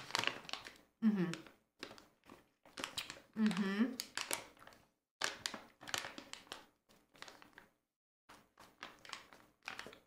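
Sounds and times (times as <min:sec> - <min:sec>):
plastic candy bag crinkling: 0:00.0 - 0:10.0.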